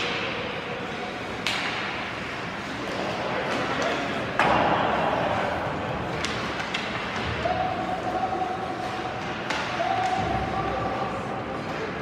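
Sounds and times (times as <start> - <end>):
arena noise: 0.0 - 12.0.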